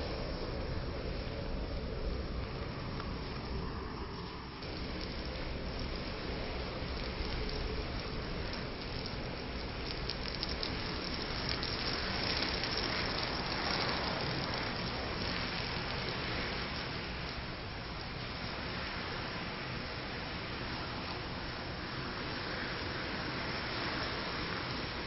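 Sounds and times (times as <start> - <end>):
rush of flame: 0.0 - 25.0.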